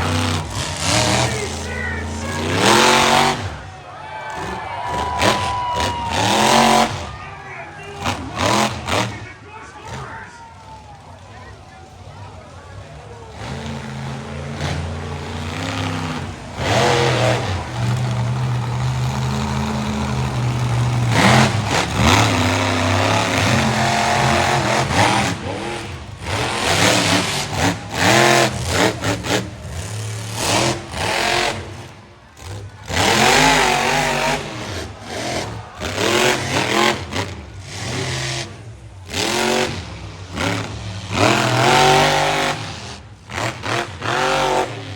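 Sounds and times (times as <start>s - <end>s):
monster truck engine revving: 0.0s - 44.9s.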